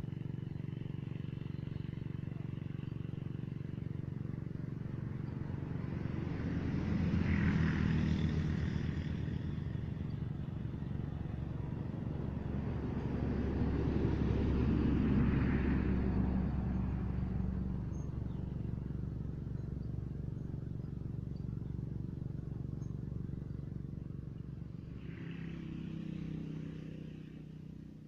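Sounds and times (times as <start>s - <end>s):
vehicle engines passing: 0.0s - 28.0s.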